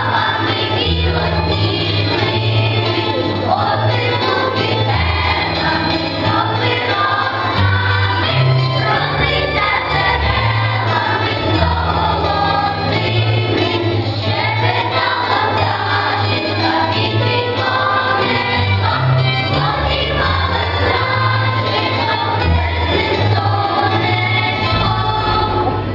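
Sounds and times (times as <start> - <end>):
choral singing: 0.0 - 25.9
musical accompaniment: 0.0 - 25.9.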